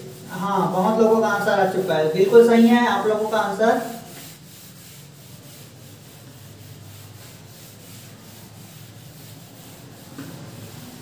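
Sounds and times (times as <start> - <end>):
duster rubbing on whiteboard: 0.0 - 11.0.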